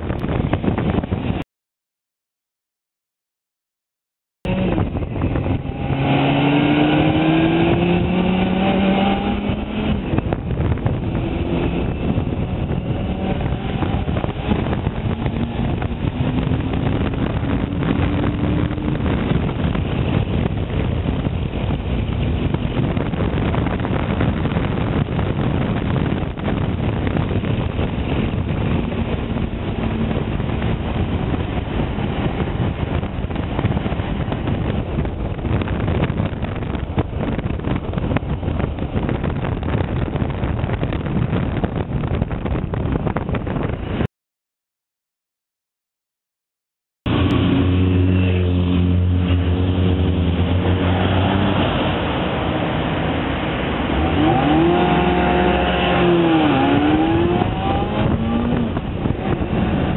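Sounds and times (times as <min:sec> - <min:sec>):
wind and road noise: 0:00.0 - 0:01.4, 0:04.4 - 0:44.1, 0:47.1 - 0:59.9
motorcycle engine accelerating: 0:04.4 - 0:44.1, 0:47.1 - 0:59.9.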